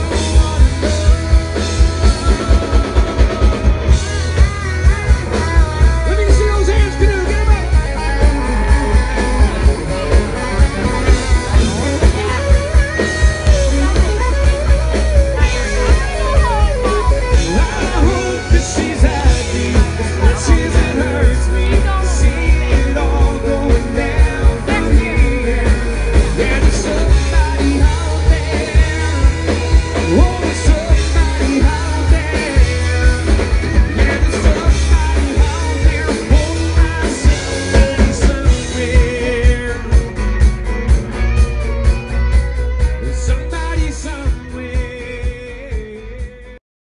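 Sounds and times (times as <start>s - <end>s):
live rock band playing: 0.0s - 46.6s
person singing: 5.8s - 40.6s, 41.2s - 46.6s.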